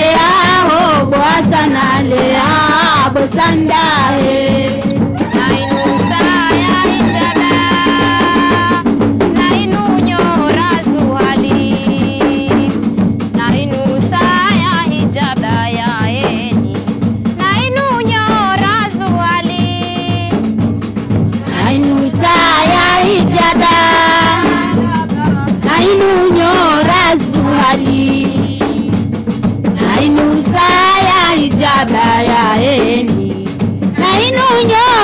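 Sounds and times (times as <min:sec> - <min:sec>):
women singing: 0:00.0 - 0:12.8, 0:13.4 - 0:16.8, 0:17.4 - 0:20.4, 0:21.3 - 0:29.0, 0:29.7 - 0:35.0
drums and rattles beat: 0:00.0 - 0:35.0.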